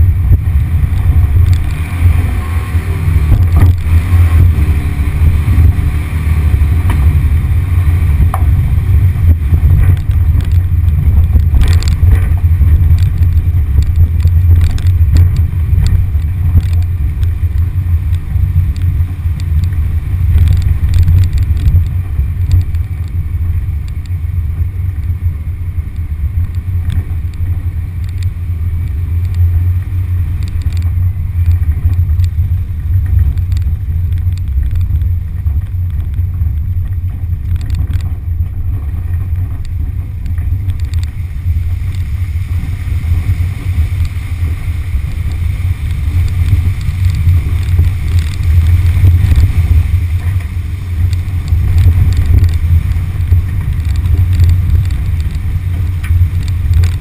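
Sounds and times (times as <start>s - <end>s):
car engine droning: 0.0s - 57.0s
car knocking and rattling: 0.0s - 57.0s.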